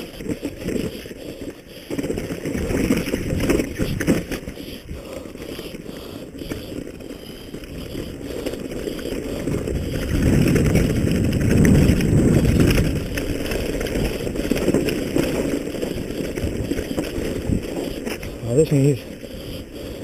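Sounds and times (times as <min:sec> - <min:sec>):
low rumble over rough ground: 0:00.0 - 0:20.0
wind buffeting microphone: 0:02.0 - 0:20.0.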